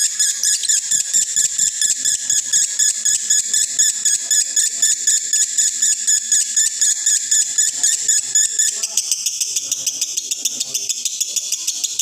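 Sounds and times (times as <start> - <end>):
lovebird shrill chirping song: 0.0 - 12.0.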